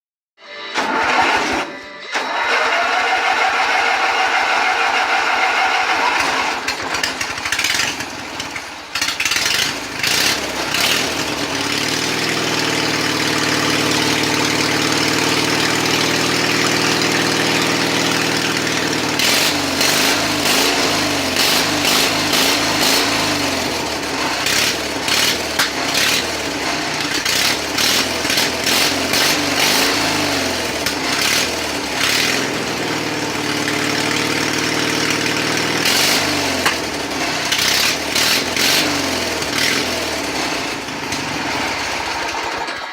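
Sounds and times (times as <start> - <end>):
starter motor whine: 0.7 - 42.9
lawnmower engine running: 0.8 - 42.9.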